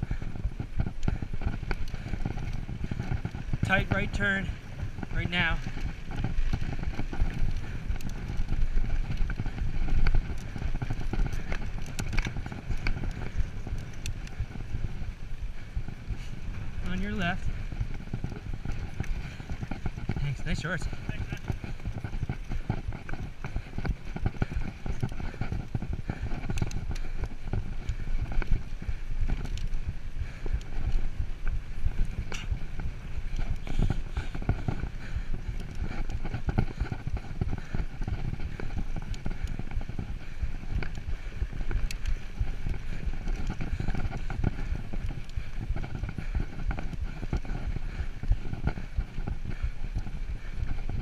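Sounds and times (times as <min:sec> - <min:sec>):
bike rattling over bumps: 0:00.0 - 0:51.0
tyres on dirt: 0:00.0 - 0:51.0.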